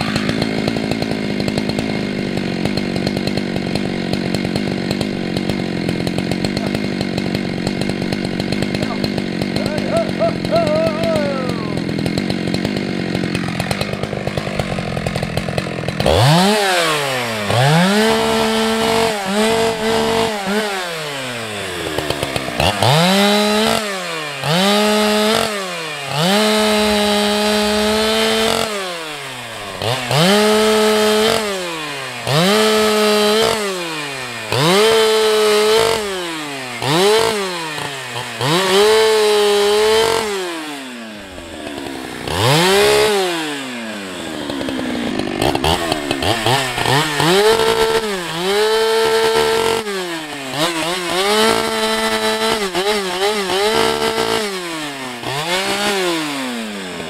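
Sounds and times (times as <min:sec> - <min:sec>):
chainsaw revving and cutting wood: 0:00.0 - 0:57.0.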